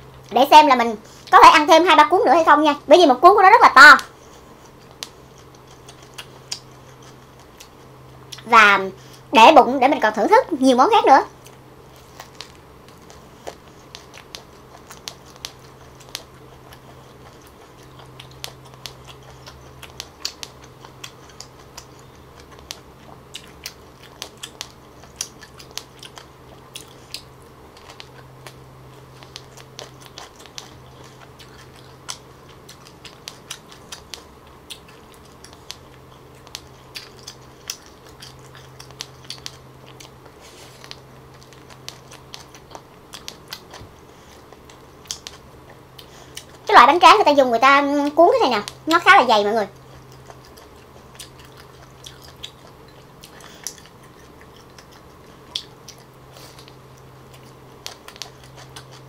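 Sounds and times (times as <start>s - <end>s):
steady low hum: 0.0s - 59.0s
mouth chewing wet smacks: 4.1s - 9.2s, 11.4s - 46.7s, 49.7s - 59.0s.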